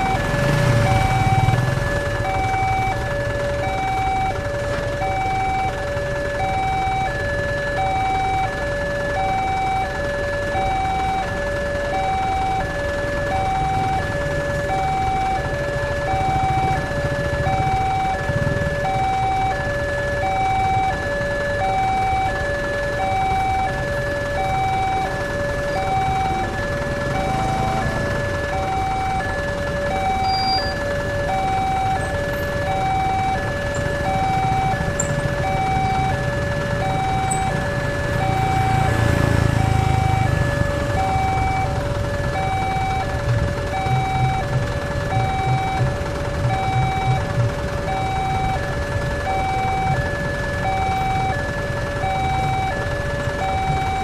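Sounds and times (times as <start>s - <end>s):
idling motorcycles and cars: 0.0s - 54.0s
level crossing two-tone alarm: 0.0s - 54.0s.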